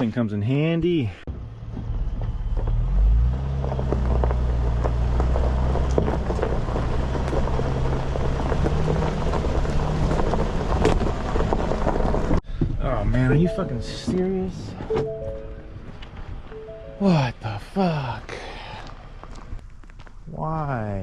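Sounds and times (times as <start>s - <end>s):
low engine hum: 1.2s - 20.2s
tyres crackling on road: 1.3s - 20.3s.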